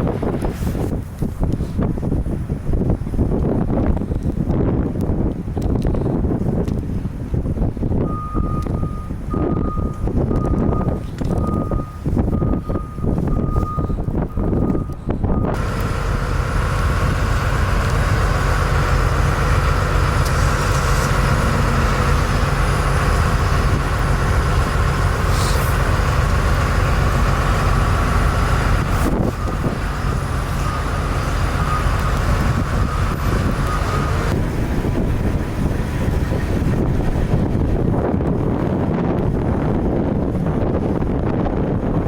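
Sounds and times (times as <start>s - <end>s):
truck engine rumbling: 0.0s - 42.0s.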